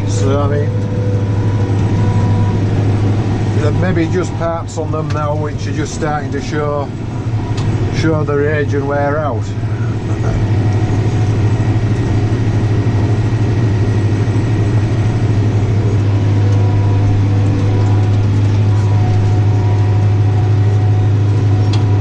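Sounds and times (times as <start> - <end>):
tractor engine low hum: 0.0 - 22.0.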